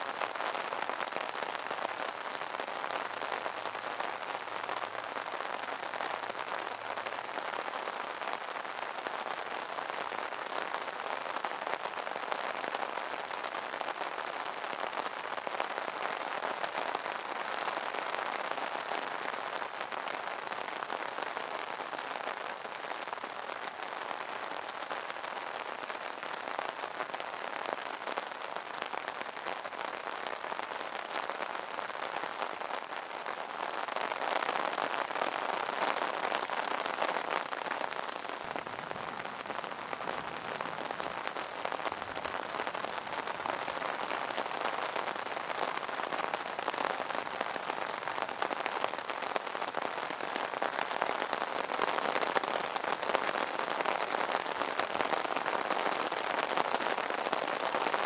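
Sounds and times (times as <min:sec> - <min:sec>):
rain pattering on umbrella: 0:00.0 - 0:58.0.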